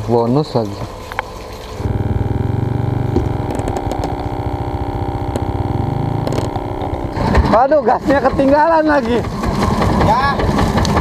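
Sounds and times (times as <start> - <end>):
motor running with low drone: 0.0 - 11.0.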